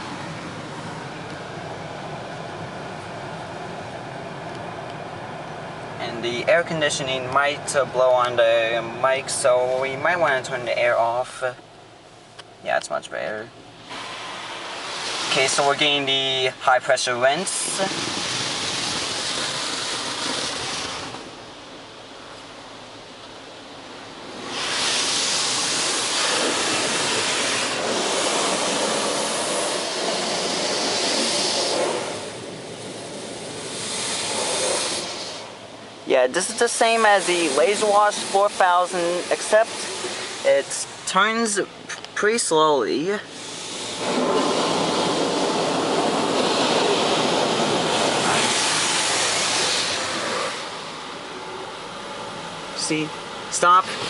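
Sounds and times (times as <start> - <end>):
car wash water jets hissing: 0.0 - 54.0.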